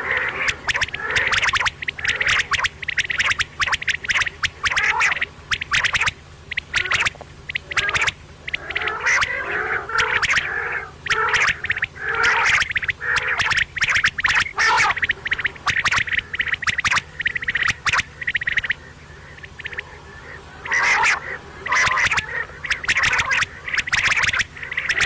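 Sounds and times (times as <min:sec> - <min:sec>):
faint low hum: 0:00.0 - 0:25.0
quail calling: 0:00.0 - 0:25.0.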